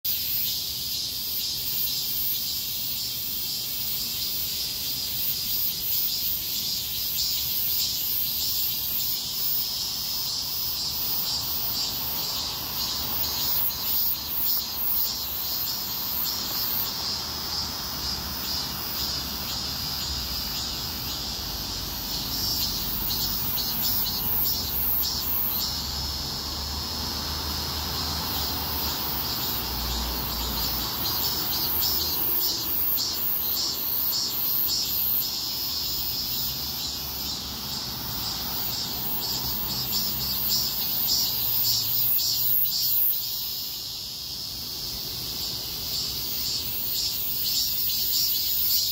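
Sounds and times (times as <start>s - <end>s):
cicadas singing in chorus: 0.0s - 48.9s.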